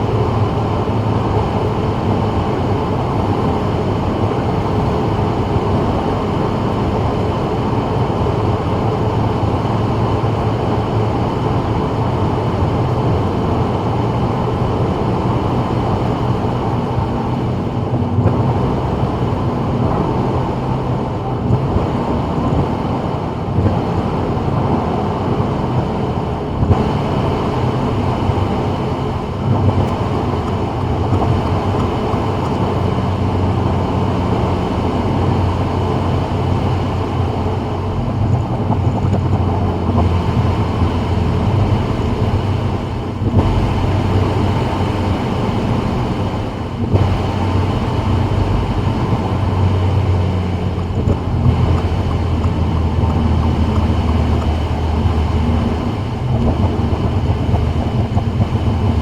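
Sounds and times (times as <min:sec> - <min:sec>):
car engine drone: 0:00.0 - 0:59.0
tyres on wet road: 0:00.0 - 0:59.0.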